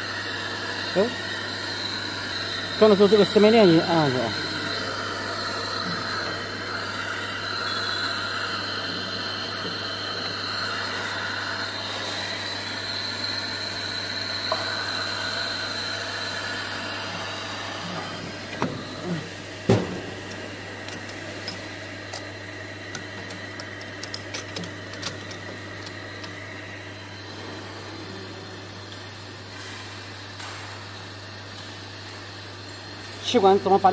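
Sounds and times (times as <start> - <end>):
factory machinery hum: 0.0 - 33.9.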